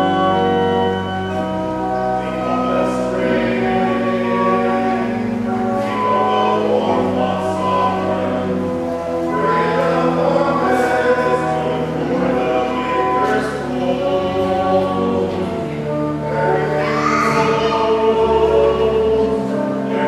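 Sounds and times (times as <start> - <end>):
church choir singing: 0.0 - 20.0.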